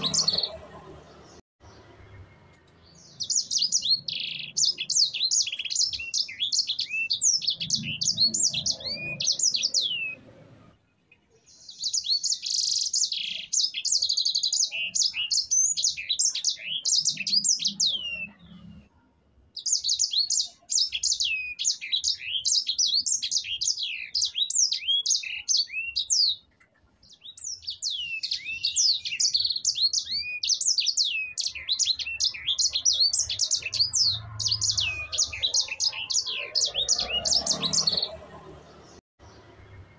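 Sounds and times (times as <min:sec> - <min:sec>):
finch singing: 0:00.0 - 0:10.4, 0:11.4 - 0:18.8, 0:19.6 - 0:39.0.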